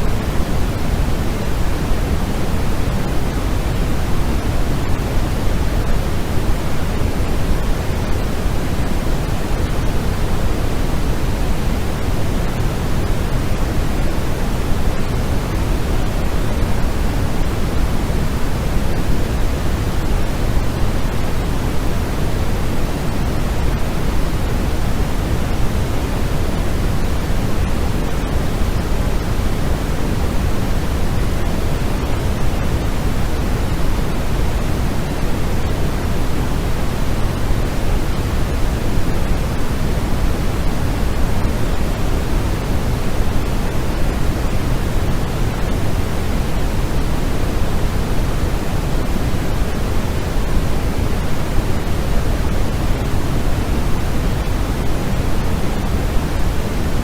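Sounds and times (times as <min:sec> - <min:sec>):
deep white noise hiss: 0:00.0 - 0:57.0.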